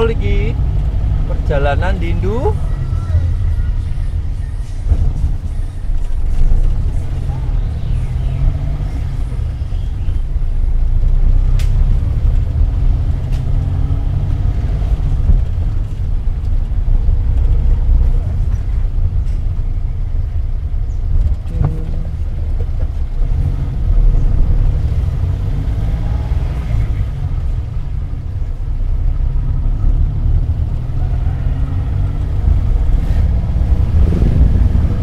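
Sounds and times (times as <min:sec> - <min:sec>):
engine low rumble: 0:00.0 - 0:35.0
road noise: 0:00.0 - 0:35.0.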